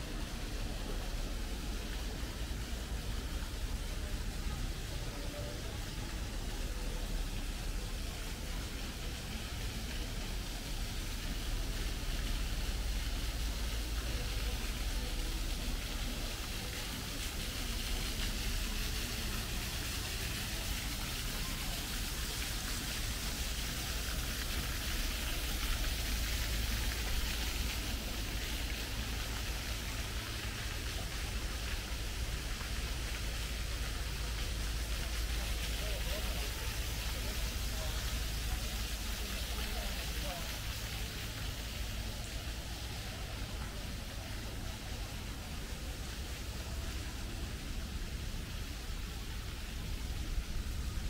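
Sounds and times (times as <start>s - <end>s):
even hiss: 0.0s - 51.0s
low city rumble: 0.0s - 51.0s.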